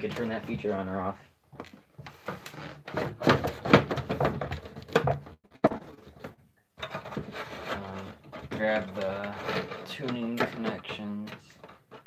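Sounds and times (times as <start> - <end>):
objects knocking and clattering: 1.6 - 12.0.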